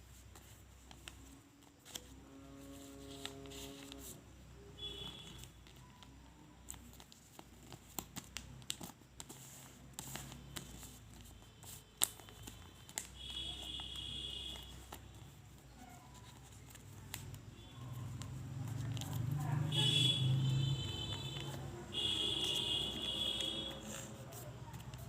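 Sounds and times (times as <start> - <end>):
paper rustling and crackling: 0.0 - 4.2, 5.1 - 25.0.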